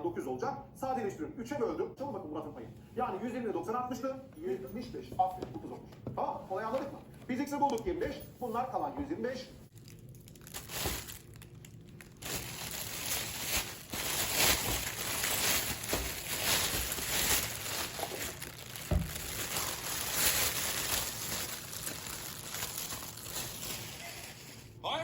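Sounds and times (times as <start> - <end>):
rustling and crinkling: 4.3 - 24.8.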